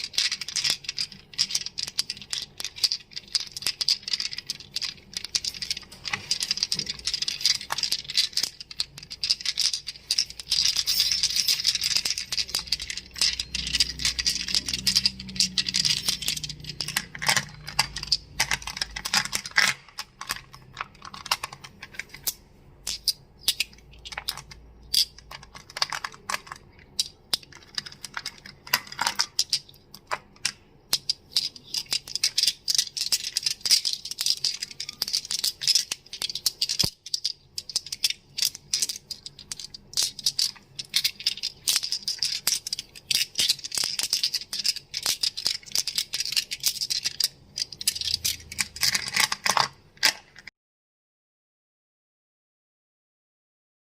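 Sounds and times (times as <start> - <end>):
crystals clicking together: 0.0 - 50.2.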